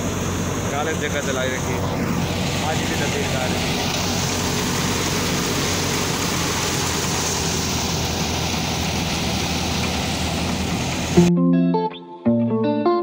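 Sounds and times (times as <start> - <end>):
tractor engine hum: 0.0 - 11.3.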